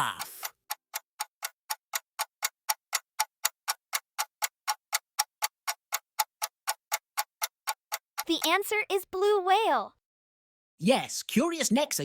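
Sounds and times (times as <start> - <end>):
countdown clock ticking: 0.0 - 9.8.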